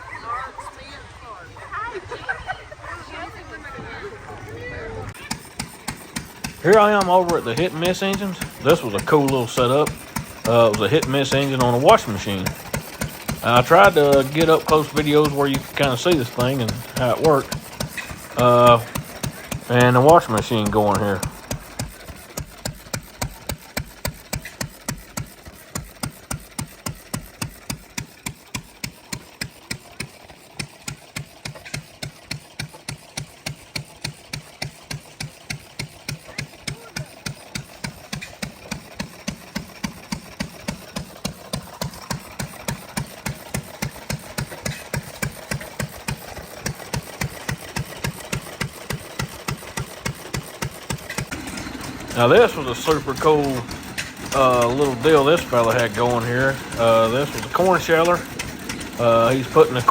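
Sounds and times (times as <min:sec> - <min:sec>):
hit-and-miss engine popping: 0:00.0 - 0:59.9.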